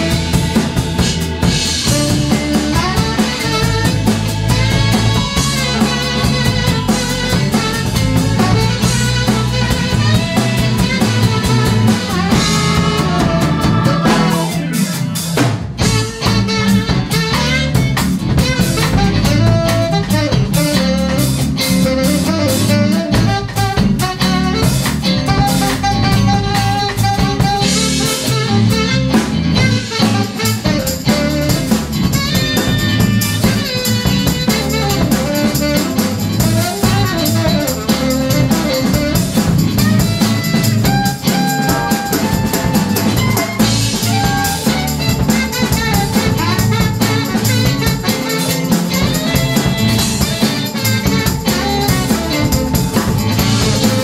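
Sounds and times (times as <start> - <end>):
drum kit: 0.0 - 54.0
electric bass: 0.0 - 54.0
electric guitar: 0.0 - 54.0
tenor saxophone: 0.0 - 54.0.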